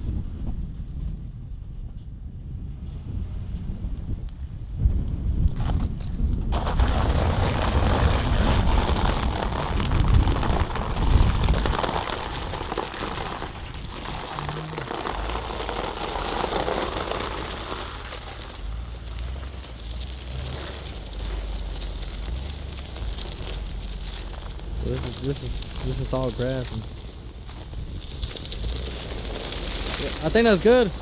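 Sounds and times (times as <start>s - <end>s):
low vehicle rumble: 0.0s - 31.0s
tyres rolling on ice: 5.6s - 31.0s.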